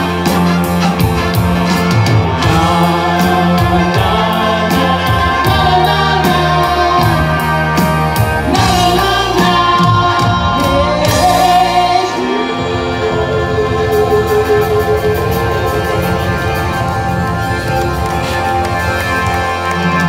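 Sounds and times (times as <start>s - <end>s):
voices singing: 0.0s - 16.8s
rock band playing: 0.0s - 20.0s.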